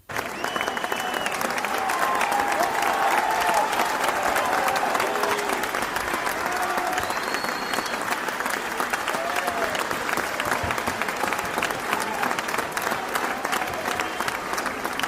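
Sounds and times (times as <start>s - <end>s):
crowd clapping: 0.0s - 15.0s.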